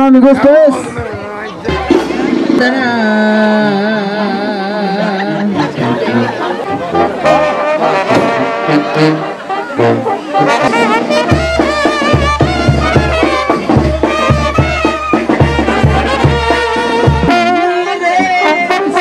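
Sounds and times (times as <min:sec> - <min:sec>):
brass band melody: 0:01.3 - 0:19.0.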